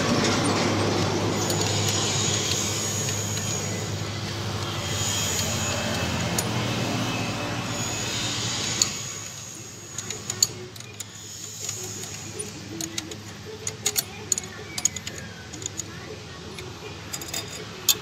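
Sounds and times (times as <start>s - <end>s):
spanner clinking on metal pipe fittings: 0.0s - 18.0s.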